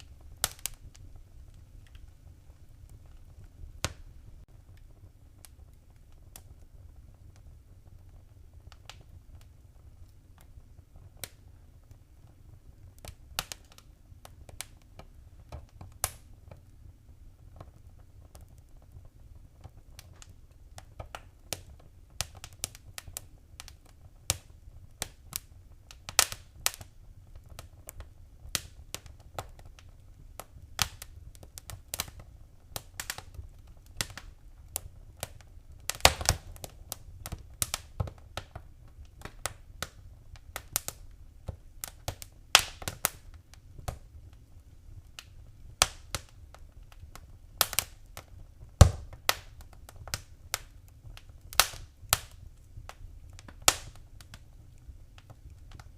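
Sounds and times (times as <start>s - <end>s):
low rumble of flames: 0.0s - 55.9s
wood fire crackling and popping: 0.0s - 55.9s.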